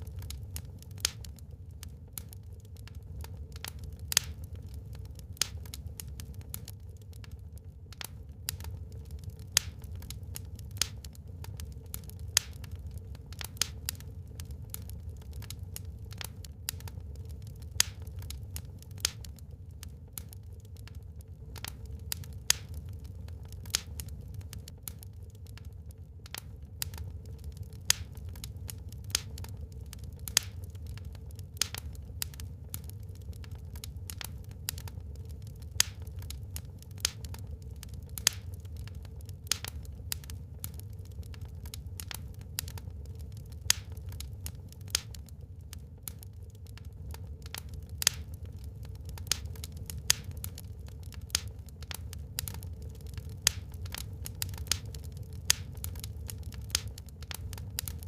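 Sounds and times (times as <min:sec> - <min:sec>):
burning wood crackling: 0:00.0 - 0:58.0
low fire rumble: 0:00.0 - 0:58.0.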